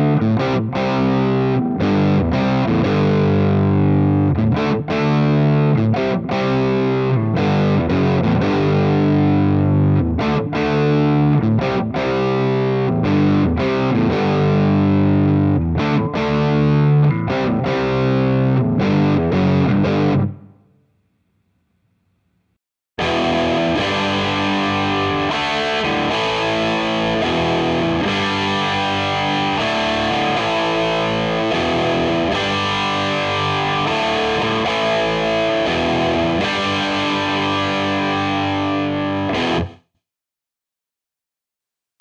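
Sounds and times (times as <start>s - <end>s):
distorted electric guitar: 0.0s - 20.6s, 23.0s - 39.8s.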